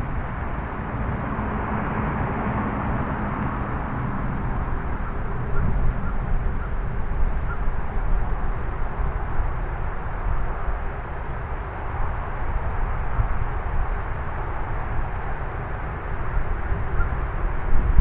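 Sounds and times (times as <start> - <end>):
wind and rain: 0.0 - 18.0
wind buffeting microphone: 0.0 - 18.0.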